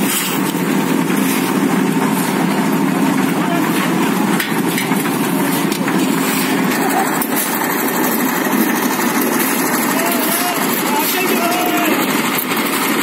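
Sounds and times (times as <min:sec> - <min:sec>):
concrete mixer engine running: 0:00.0 - 0:13.0
shovels scraping wet concrete: 0:00.0 - 0:13.0.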